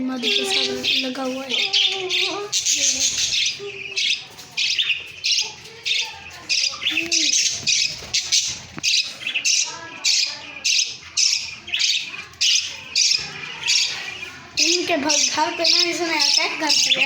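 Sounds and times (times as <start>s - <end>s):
parrots chirping softly: 0.0s - 17.0s
parrots squawking: 0.0s - 17.0s.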